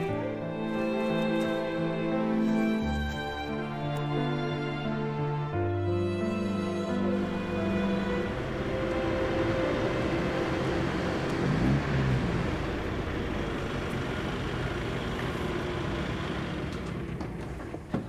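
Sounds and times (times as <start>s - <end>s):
machinery and vehicle noise: 0.0s - 5.4s, 6.3s - 18.0s.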